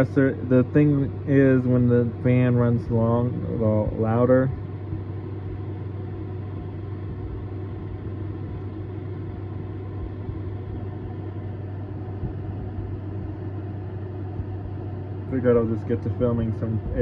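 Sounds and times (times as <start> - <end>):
air conditioner hum: 0.0 - 17.0
fan rushing: 0.0 - 17.0.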